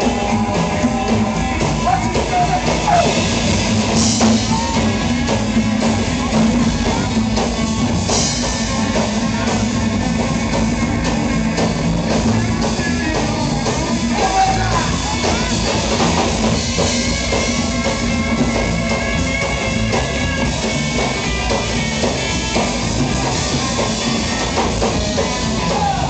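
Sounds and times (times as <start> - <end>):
driving drum kit: 0.0 - 26.0
electric guitar: 0.0 - 26.0.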